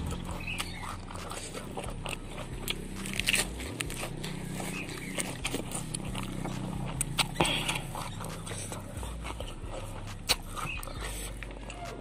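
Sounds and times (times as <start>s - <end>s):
wet chewing mouth sounds: 0.0s - 12.0s.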